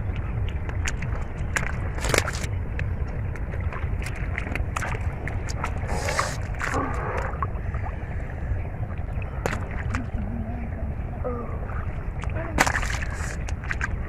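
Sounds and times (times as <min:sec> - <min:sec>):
low rumble: 0:00.0 - 0:14.0
water sloshing and splashing: 0:00.0 - 0:14.0.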